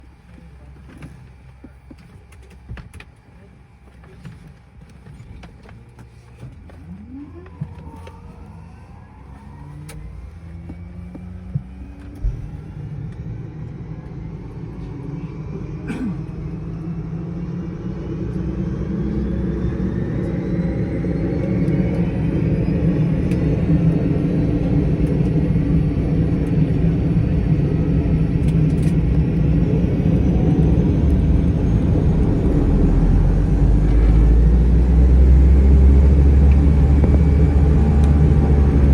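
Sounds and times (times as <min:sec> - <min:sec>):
low engine rumble: 0:00.0 - 0:38.9
turboprop engine whine spooling up: 0:06.8 - 0:38.9.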